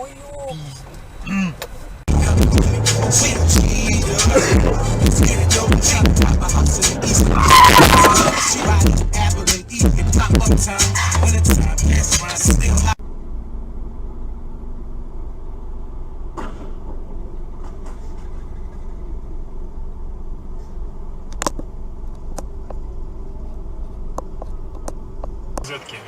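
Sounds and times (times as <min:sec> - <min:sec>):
car cabin rumble: 0:00.4 - 0:26.0.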